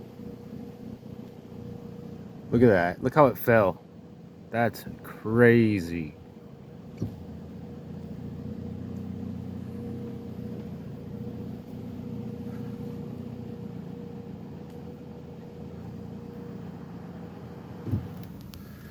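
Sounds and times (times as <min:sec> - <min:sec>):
low mechanical hum: 0:00.0 - 0:18.9.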